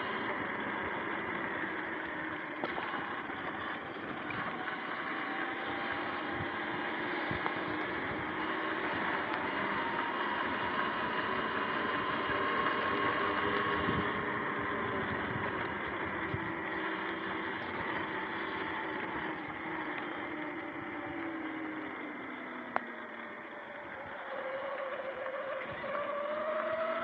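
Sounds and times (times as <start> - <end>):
electric motor whine: 0.0 - 27.0
wind: 0.0 - 27.0.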